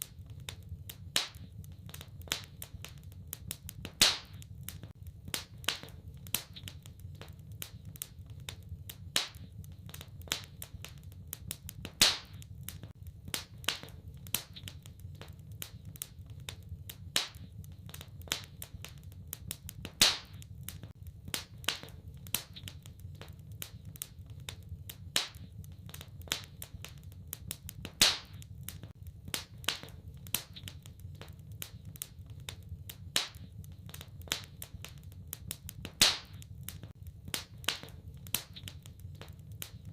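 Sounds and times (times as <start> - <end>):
steady low rumble: 0.0 - 39.9
wood fire crackling: 0.0 - 39.9.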